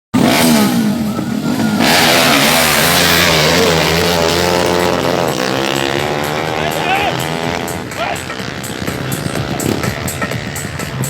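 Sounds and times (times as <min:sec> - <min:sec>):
motorcycle engines revving: 0:00.2 - 0:11.0.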